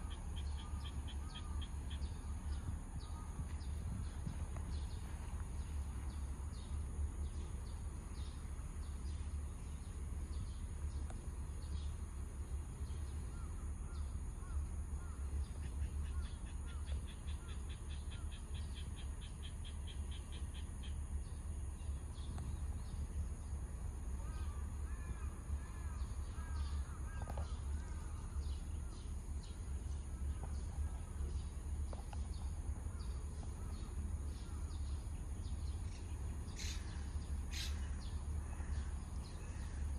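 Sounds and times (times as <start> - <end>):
birds chirping: 0.0 - 39.9
steady low rumble: 0.0 - 39.9.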